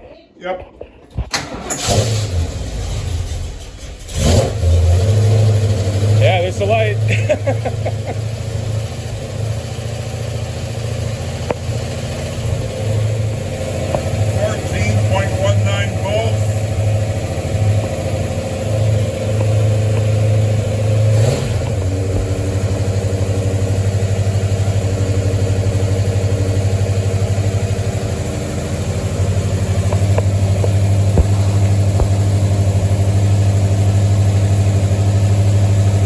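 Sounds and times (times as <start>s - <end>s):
car engine idling: 1.2s - 36.0s.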